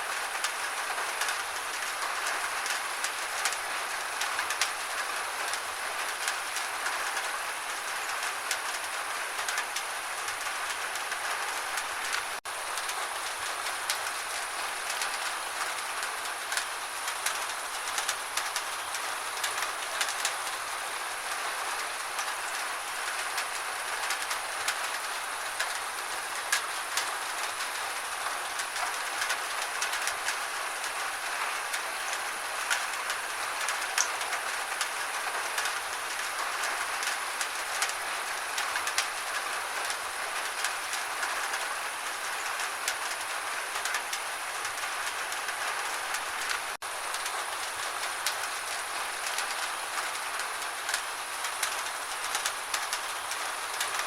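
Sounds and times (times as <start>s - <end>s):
gentle steady rain: 0.0s - 54.0s.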